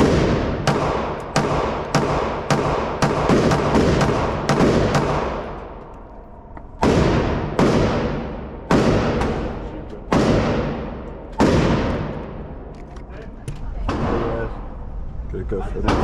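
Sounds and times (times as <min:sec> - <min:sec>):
pistol shots echoing indoors: 0:00.0 - 0:12.9.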